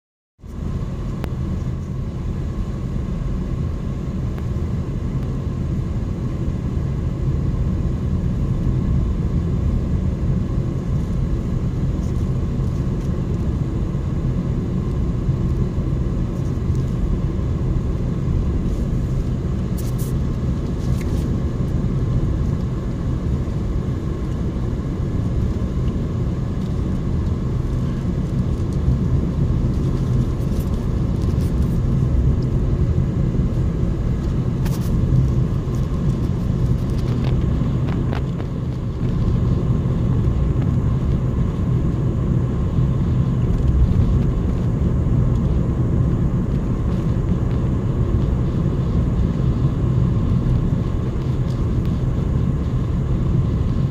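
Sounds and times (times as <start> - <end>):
car engine and tyre rumble: 0.4 - 53.9.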